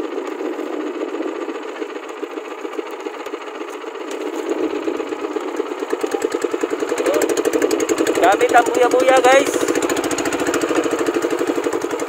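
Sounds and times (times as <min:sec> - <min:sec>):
small boat engine chugging: 0:00.0 - 0:12.0.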